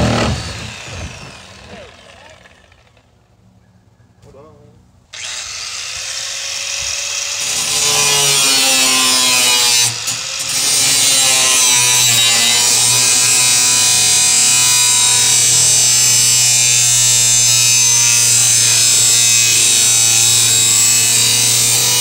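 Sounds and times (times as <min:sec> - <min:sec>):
angle grinder whining: 0:00.0 - 0:03.1, 0:05.1 - 0:22.0
grinder disc grinding steel: 0:00.0 - 0:03.1, 0:05.2 - 0:22.0.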